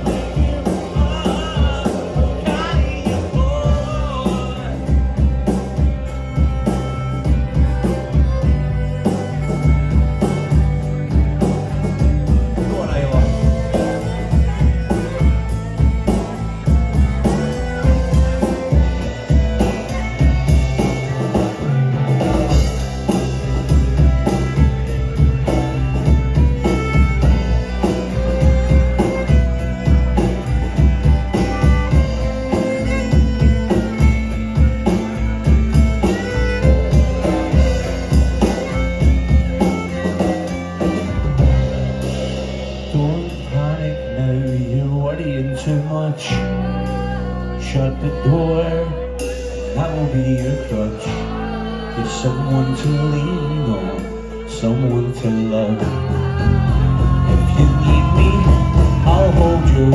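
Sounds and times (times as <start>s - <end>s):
drum kit beat: 0.0s - 44.9s, 48.1s - 59.9s
bass notes: 0.0s - 59.9s
guitar: 0.0s - 59.9s
live band music: 0.0s - 59.9s
melodic lead line: 0.0s - 59.9s.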